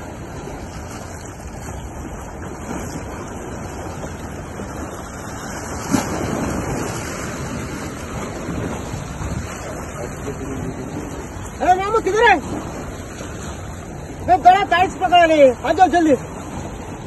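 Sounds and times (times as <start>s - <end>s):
waves splashing against rocks: 0.0s - 17.0s
wind on microphone: 0.0s - 17.0s.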